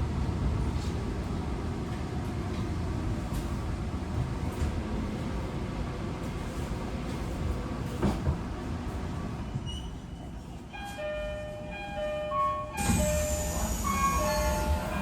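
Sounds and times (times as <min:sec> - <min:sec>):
train low steady noise: 0:00.0 - 0:15.0.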